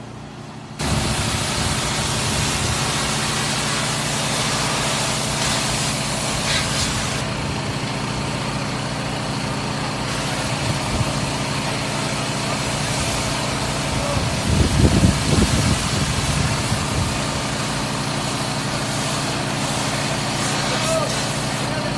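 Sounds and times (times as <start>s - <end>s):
pressure washer engine running: 0.0s - 21.9s
high-pressure water spray hissing: 0.8s - 7.4s, 9.8s - 21.9s.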